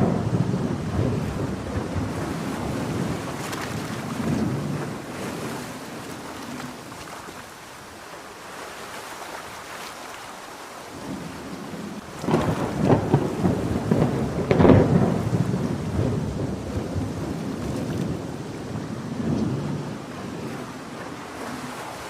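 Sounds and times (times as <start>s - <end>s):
thunder rumble: 0.0s - 6.8s, 11.0s - 22.0s
ocean waves: 0.0s - 22.0s
rain: 0.0s - 22.0s.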